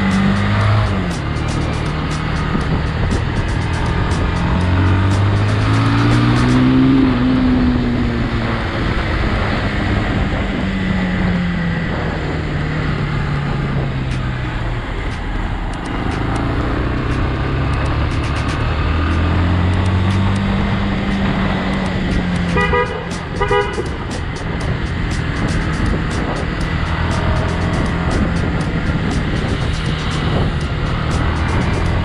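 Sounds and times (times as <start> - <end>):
motorcycle engine accelerating: 0.0 - 32.0
wind rushing: 0.0 - 32.0.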